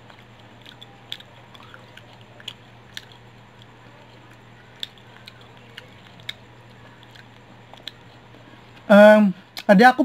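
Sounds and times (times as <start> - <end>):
person chewing crunchy food: 0.0 - 8.9.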